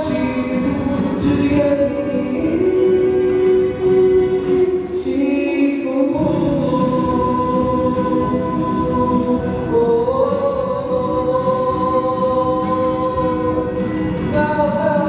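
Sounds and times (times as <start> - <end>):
acoustic guitar strumming: 0.0 - 15.0
man singing long held notes: 0.0 - 15.0.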